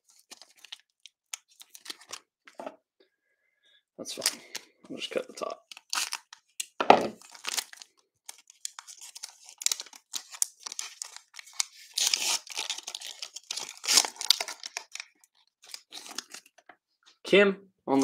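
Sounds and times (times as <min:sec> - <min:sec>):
plastic wrapper crinkling and tearing: 0:00.1 - 0:02.6, 0:04.1 - 0:16.8.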